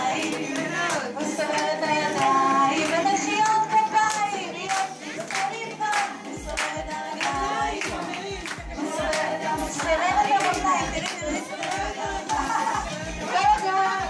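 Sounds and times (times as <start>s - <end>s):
upbeat song with singing: 0.0s - 14.0s
hands clapping: 0.1s - 13.7s.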